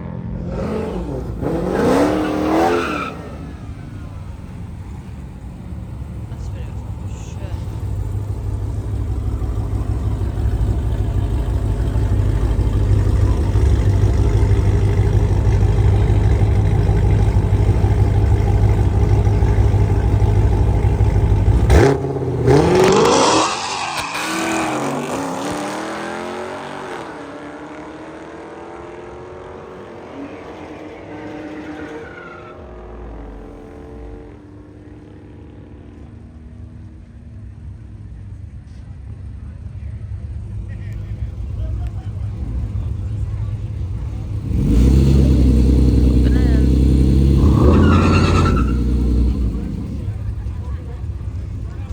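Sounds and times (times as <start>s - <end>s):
drag car engine accelerating: 0.1s - 37.0s, 40.3s - 51.9s.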